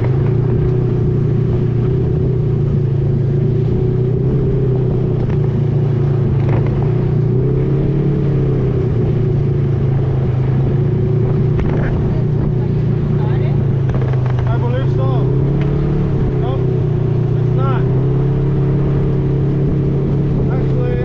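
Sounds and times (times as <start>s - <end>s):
atv engine idling: 0.0s - 21.0s.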